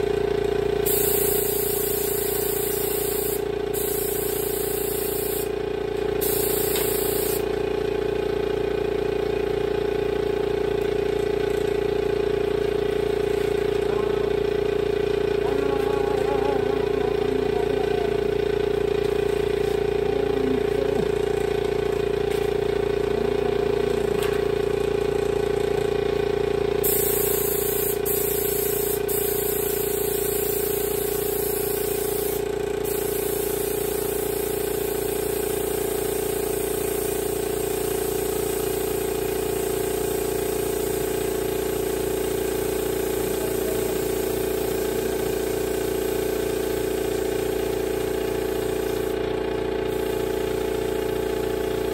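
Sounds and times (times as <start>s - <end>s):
air compressor droning: 0.0s - 51.9s.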